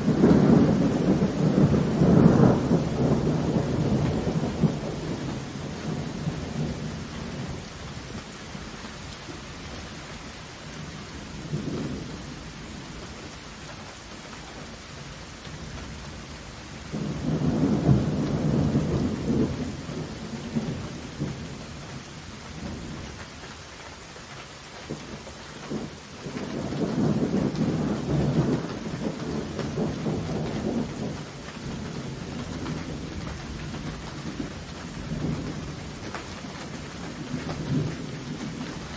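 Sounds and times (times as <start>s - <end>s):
thunder rumbling: 0.0s - 10.0s, 10.6s - 13.2s, 15.5s - 23.2s, 24.9s - 38.9s
rain hissing: 0.0s - 38.9s.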